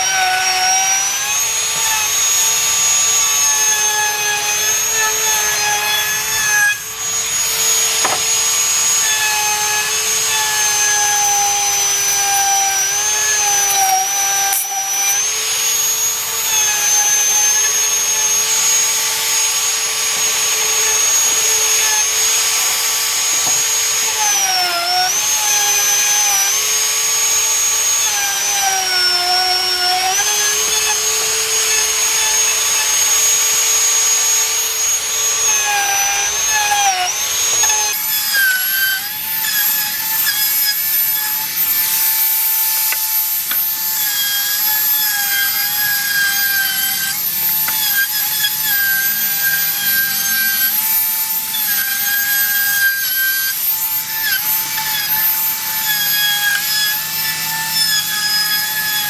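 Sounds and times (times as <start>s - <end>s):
power tool cutting wood: 0.0s - 59.0s.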